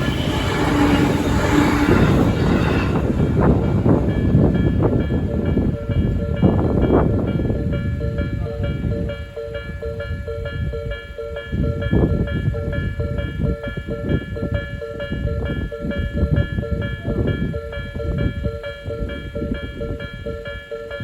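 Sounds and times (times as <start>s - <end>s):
train wheels rumbling and clacking: 0.0s - 21.0s
level crossing bell ringing: 3.4s - 21.0s.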